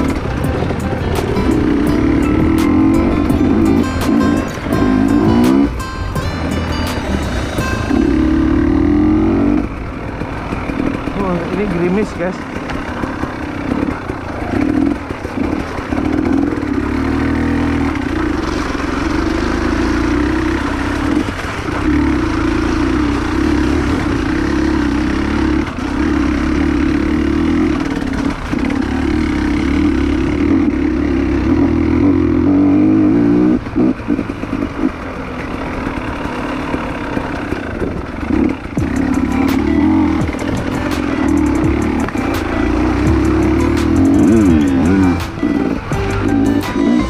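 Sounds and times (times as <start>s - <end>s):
dirt bike engine: 0.0s - 47.0s.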